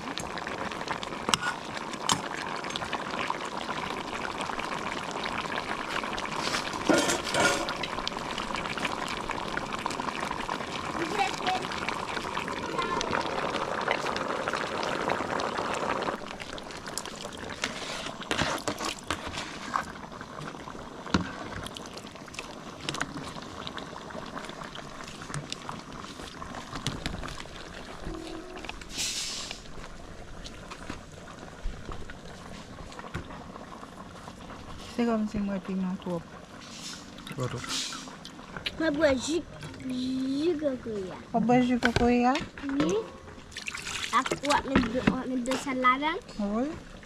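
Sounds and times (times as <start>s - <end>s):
stew bubbling and hissing: 0.0s - 42.3s, 43.4s - 47.0s.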